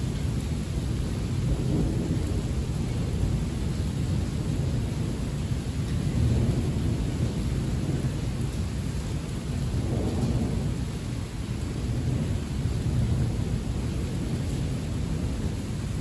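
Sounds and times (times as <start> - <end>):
heavy rain hissing: 0.0 - 16.0
rumble of thunder: 0.0 - 16.0.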